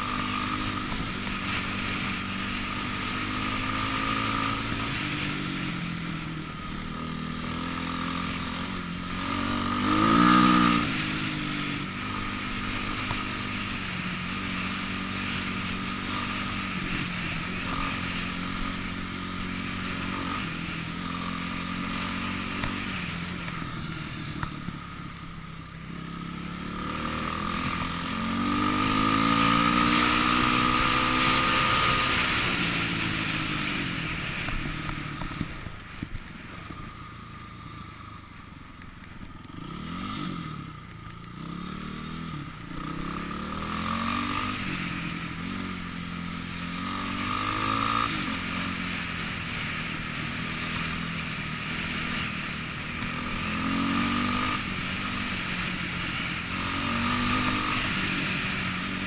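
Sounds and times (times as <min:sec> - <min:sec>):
dirt bike engine revving: 0:00.0 - 0:35.6, 0:39.4 - 0:59.0.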